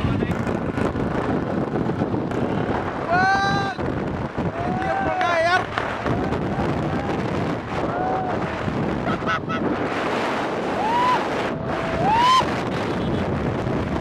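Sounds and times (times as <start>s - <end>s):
wind roaring over microphone: 0.0s - 14.0s.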